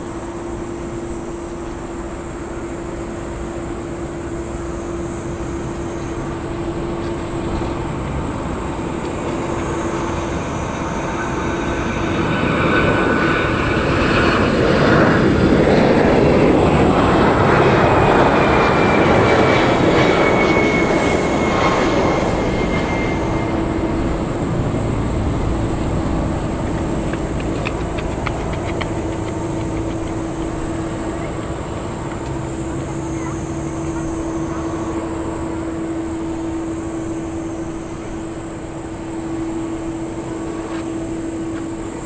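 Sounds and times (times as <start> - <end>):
high engine whine: 0.0 - 42.0
jet engines humming: 0.0 - 42.0.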